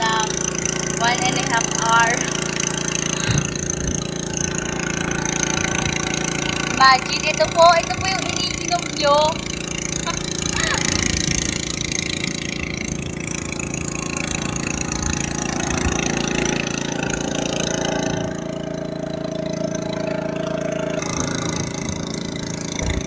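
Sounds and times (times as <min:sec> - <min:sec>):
boat engine running: 0:00.0 - 0:23.0
higher steady tone: 0:00.0 - 0:23.0.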